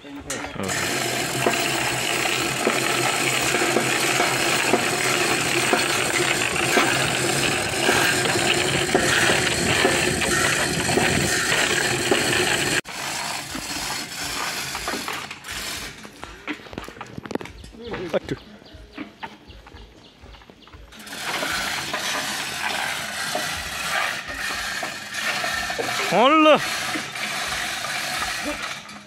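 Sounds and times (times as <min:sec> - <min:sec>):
hoist chain rattling: 0:00.2 - 0:16.1, 0:20.9 - 0:29.0
scattered clicks and clatter: 0:00.2 - 0:17.8, 0:20.9 - 0:29.0.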